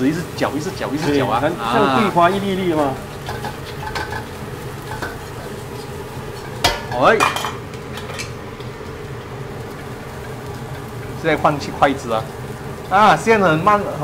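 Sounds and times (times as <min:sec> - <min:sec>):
frying sizzle: 0:00.0 - 0:14.0.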